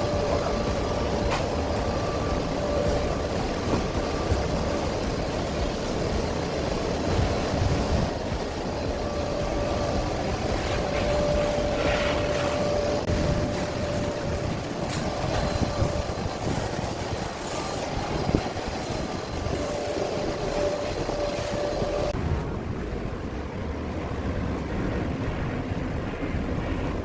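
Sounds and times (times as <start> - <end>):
ventilation fan whining: 0.0 - 27.0.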